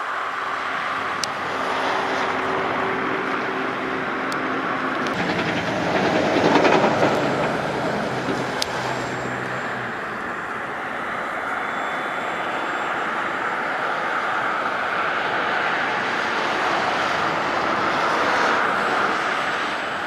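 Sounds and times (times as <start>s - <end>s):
wind noise: 0.0s - 20.0s.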